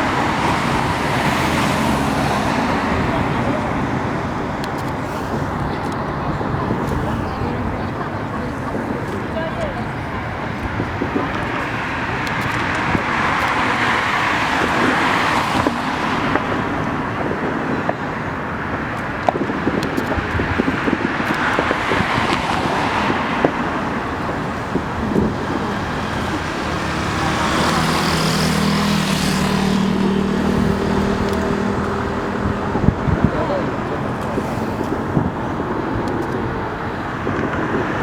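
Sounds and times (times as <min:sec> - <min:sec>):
distant fireworks booming: 0:00.0 - 0:38.0
fireworks crackling: 0:00.0 - 0:38.0
outdoor background noise: 0:00.0 - 0:38.0.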